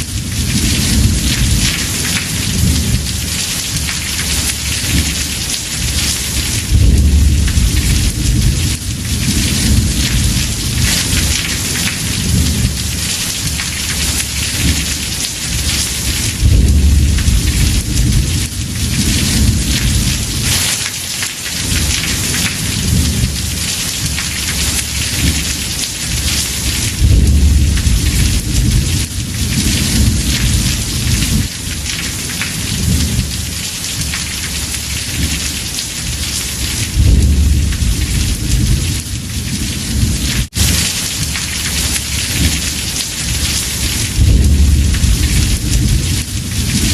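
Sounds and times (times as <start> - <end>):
rolling thunder: 0.0 - 20.8, 21.6 - 25.4, 26.0 - 46.9
heavy rain on a roof: 0.0 - 46.9.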